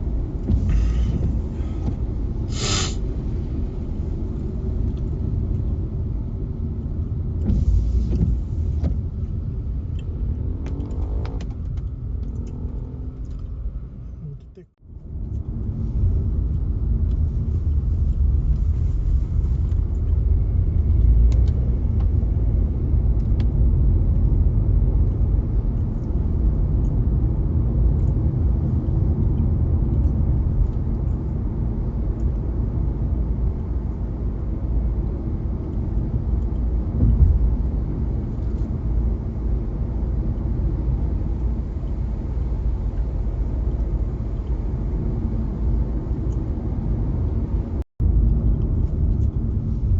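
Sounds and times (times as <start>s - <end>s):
car engine rumble: 0.0s - 49.9s
tyres on road: 0.0s - 49.9s.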